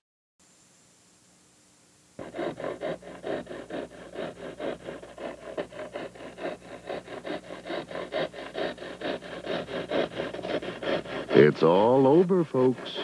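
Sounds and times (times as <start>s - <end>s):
fast scraping rasp: 2.2s - 13.0s.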